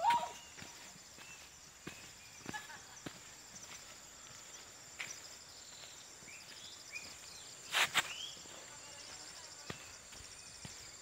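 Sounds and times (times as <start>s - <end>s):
faint footsteps: 0.0s - 11.0s
high insect drone: 0.0s - 11.0s.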